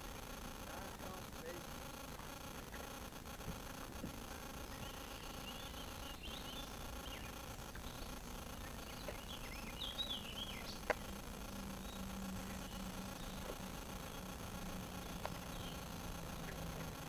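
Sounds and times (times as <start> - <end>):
birds chirping and twittering: 0.0 - 17.0
steady low hum: 0.0 - 17.0.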